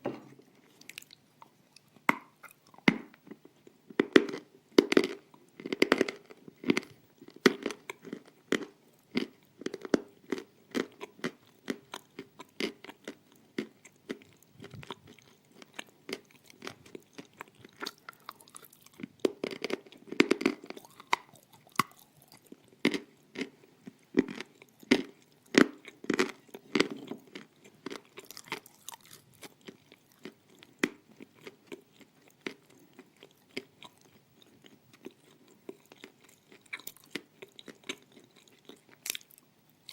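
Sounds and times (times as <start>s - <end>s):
crunching and chewing clay: 0.4s - 39.9s.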